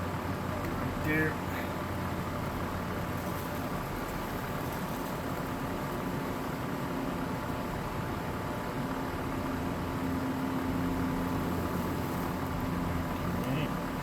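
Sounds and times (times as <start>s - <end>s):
mechanical hum with held tones: 0.0s - 14.0s.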